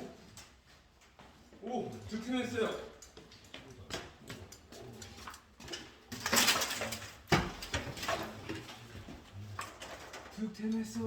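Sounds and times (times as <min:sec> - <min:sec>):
small parts and tools clattering: 0:01.9 - 0:11.0.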